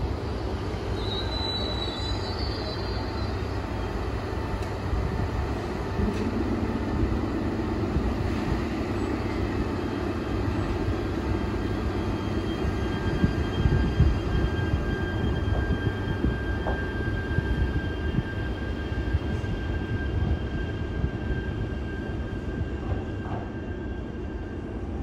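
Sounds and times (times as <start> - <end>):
train wheels rushing by: 0.4 - 24.8.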